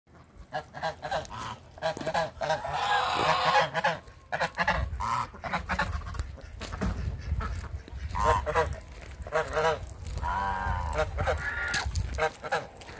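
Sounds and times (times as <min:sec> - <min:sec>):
geese honking: 0:00.1 - 0:12.9.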